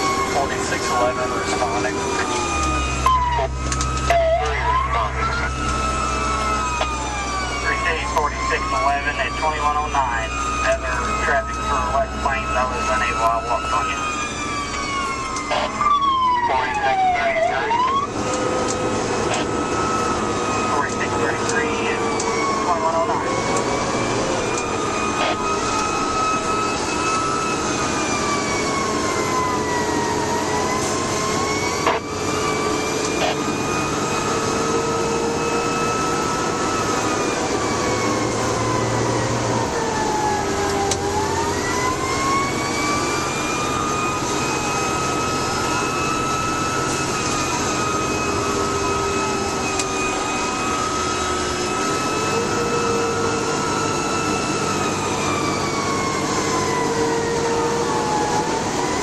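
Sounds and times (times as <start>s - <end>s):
fire engine siren wailing: 0.0s - 59.0s
road noise: 0.0s - 59.0s
truck engine running: 0.0s - 59.0s.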